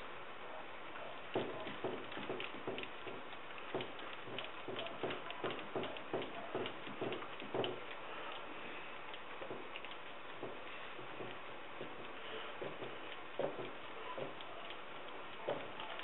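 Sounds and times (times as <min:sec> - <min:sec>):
paintbrush dabbing resin: 0:01.4 - 0:16.0.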